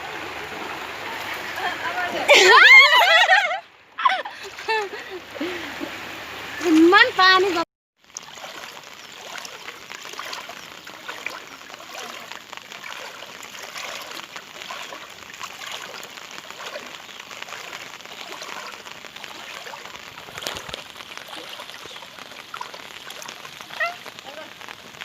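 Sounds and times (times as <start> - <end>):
floodwater flowing and splashing: 0.0 - 25.0.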